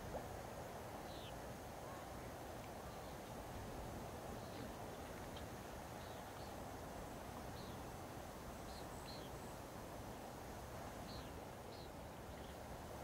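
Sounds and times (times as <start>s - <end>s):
waterside ambience rush: 0.0s - 13.0s.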